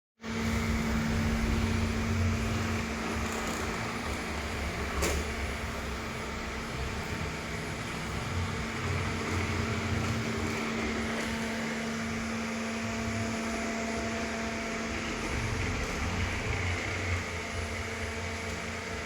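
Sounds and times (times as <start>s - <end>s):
small motor humming: 0.3s - 19.0s.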